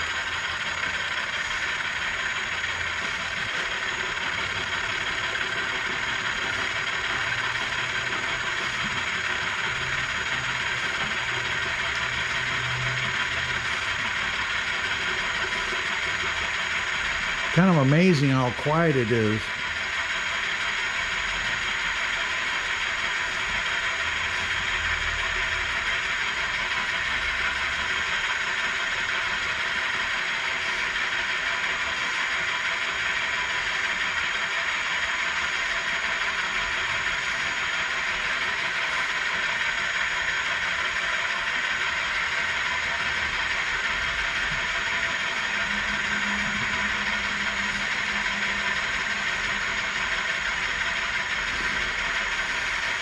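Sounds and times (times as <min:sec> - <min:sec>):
milling machine cutting: 0:00.0 - 0:53.0.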